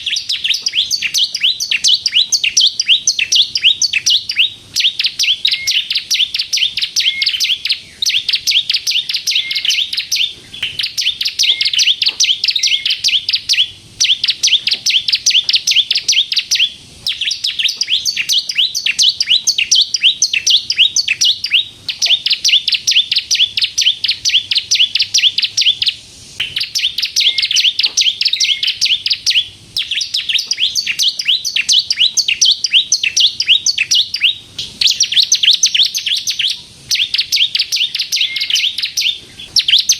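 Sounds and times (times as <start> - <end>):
bird singing high chattering notes: 0.0 - 39.9.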